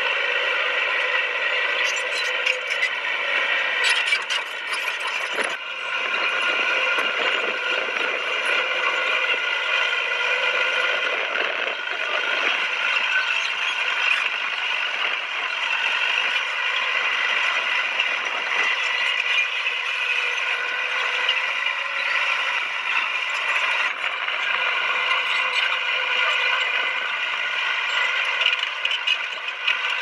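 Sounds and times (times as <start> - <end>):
bulldozer engine running: 0.0 - 30.0.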